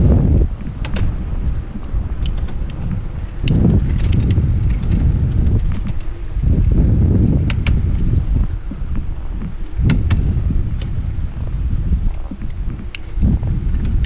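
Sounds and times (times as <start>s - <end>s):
bicycle clicks and rattles: 0.0s - 14.0s
wind buffeting camera: 0.0s - 14.0s.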